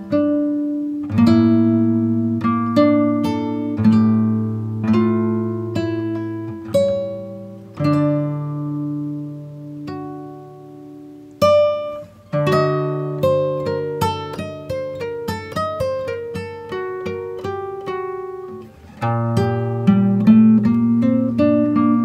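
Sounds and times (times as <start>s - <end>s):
plucked acoustic guitar: 0.0s - 22.0s.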